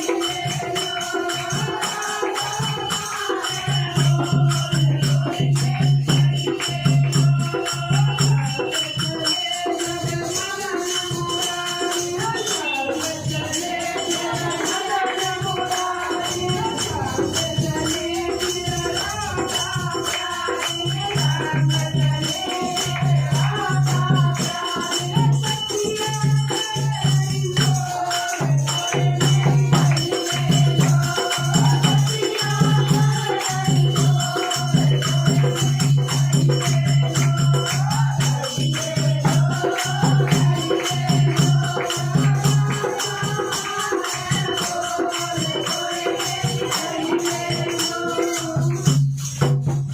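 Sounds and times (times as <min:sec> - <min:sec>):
rhythmic percussion: 0:00.0 - 0:49.9
woman singing devotional song: 0:00.0 - 0:49.9.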